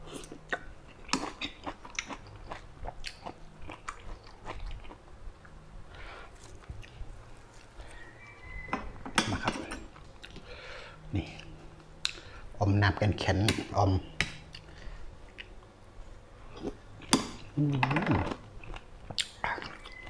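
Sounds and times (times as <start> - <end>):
person chewing food: 0.0 - 8.7, 9.3 - 12.4, 14.2 - 15.7, 16.5 - 20.0.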